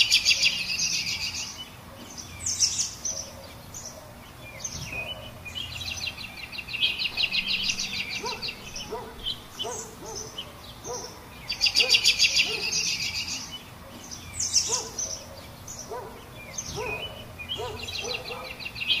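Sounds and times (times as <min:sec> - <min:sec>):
high bird chirps: 0:00.0 - 0:19.0
loud fast bird trill: 0:00.0 - 0:19.0
lower bird call: 0:00.0 - 0:19.0.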